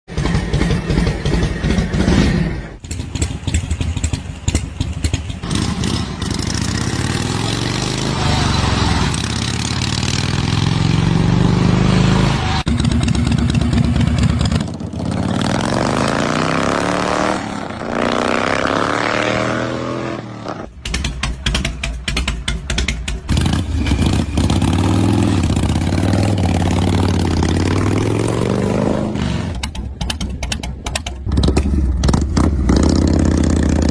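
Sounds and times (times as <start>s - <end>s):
motorcycle engines revving: 0.1s - 33.9s.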